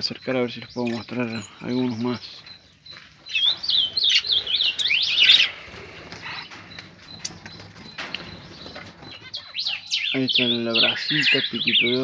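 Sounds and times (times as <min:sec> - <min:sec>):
songbirds chirping and twittering: 0:00.0 - 0:12.0.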